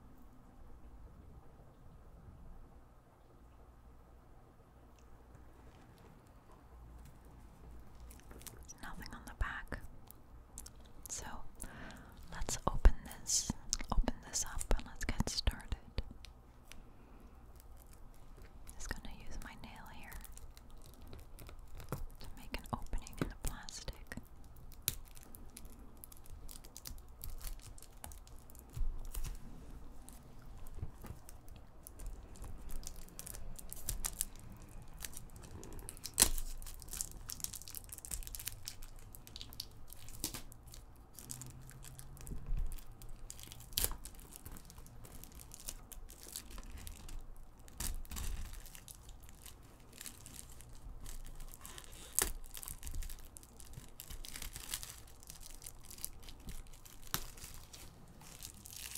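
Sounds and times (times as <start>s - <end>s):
plastic shrink-wrap crinkling: 7.7s - 15.6s, 16.6s - 58.9s.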